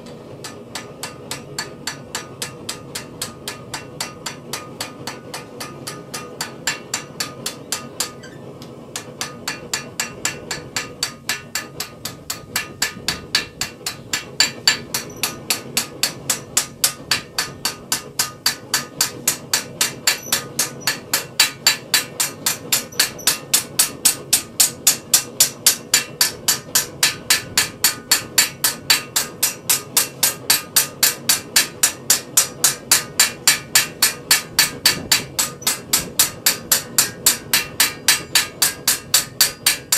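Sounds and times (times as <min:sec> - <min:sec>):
hammer striking metal: 0:00.0 - 0:39.9.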